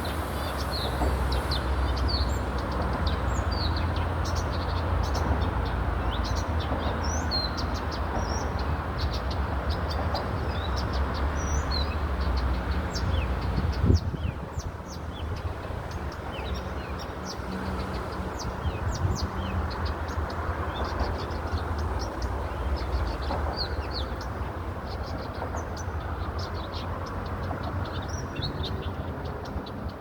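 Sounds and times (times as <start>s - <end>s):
city background rumble: 0.0s - 30.0s
songbirds chirping: 0.0s - 30.0s.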